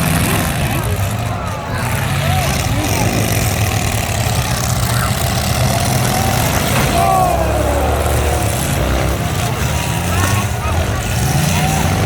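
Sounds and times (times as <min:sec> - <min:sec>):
background voices: 0:00.0 - 0:12.0
truck engines running: 0:00.0 - 0:12.0.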